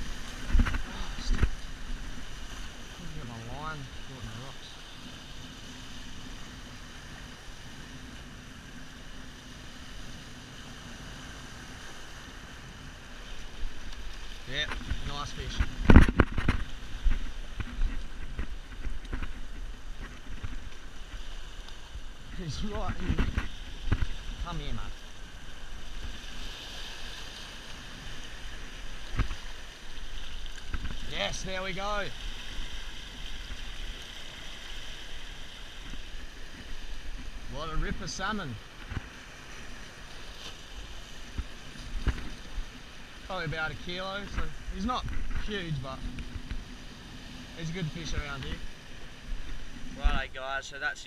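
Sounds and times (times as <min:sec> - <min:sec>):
surf washing over rocks: 0:00.0 - 0:51.0.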